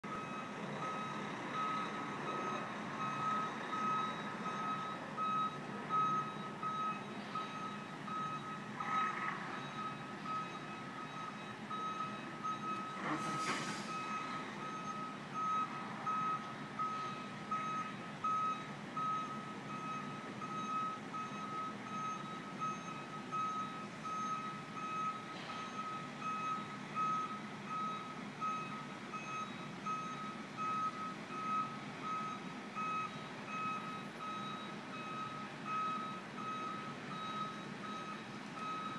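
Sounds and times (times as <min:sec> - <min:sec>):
diesel engine rumble: 0:00.0 - 0:38.9
backup alarm beeping: 0:00.1 - 0:38.9.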